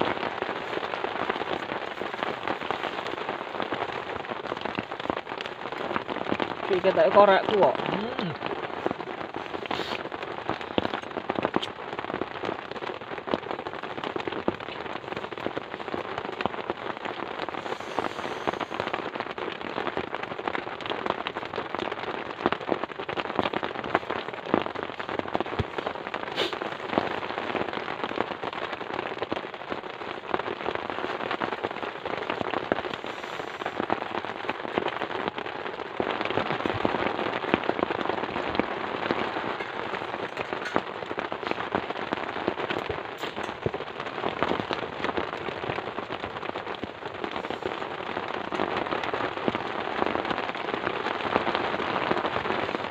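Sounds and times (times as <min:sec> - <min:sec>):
heavy rain crackling: 0:00.0 - 0:52.9.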